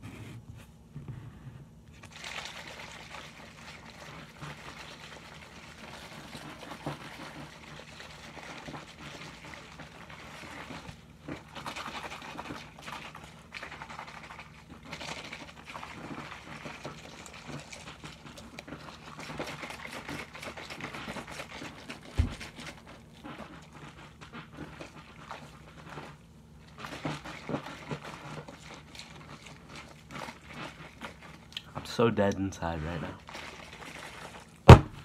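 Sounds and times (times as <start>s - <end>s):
liquid sloshing in shaker cup: 2.0s - 35.0s.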